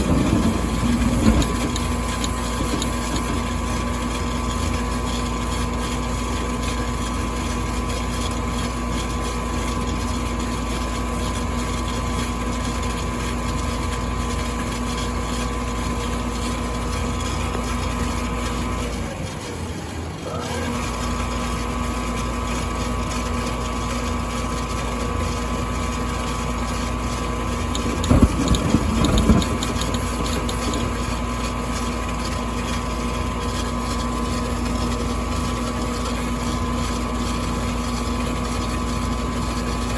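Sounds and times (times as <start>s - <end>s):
furnace motor hum: 0.0s - 39.9s.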